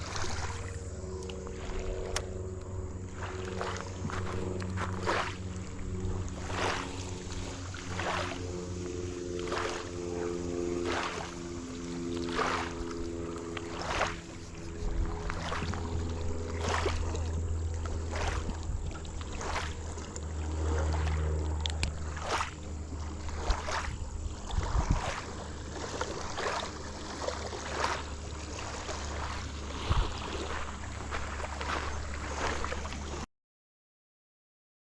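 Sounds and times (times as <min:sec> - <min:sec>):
low rumble: 0:00.0 - 0:33.2
water swishes: 0:00.0 - 0:33.2.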